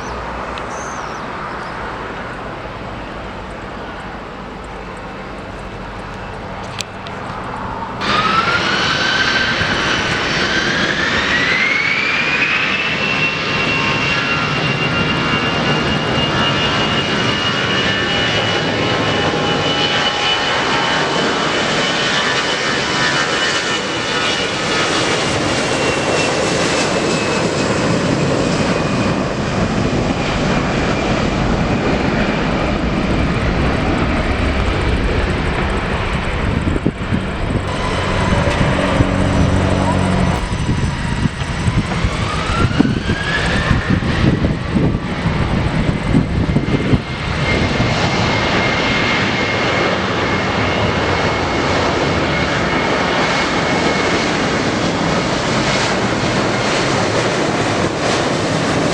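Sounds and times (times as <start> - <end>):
jet engines spooling up: 0.0 - 58.9.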